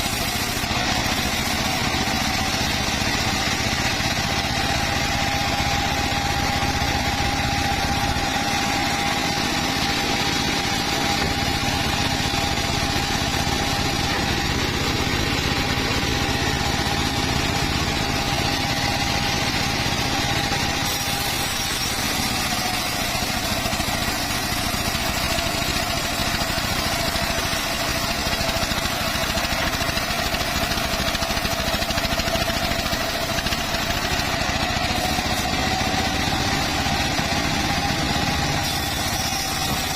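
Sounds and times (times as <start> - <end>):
circular saw whining: 0.0 - 39.9.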